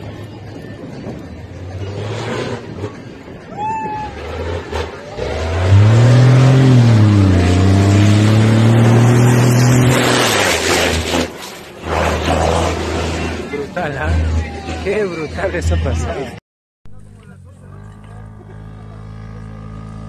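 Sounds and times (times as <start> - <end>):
truck engine driving past: 1.3 - 16.0, 16.9 - 20.0.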